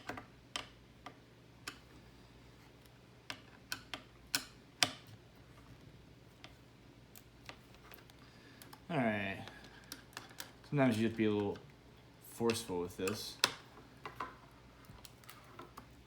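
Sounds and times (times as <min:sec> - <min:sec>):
quiet hum: 0:00.0 - 0:16.0.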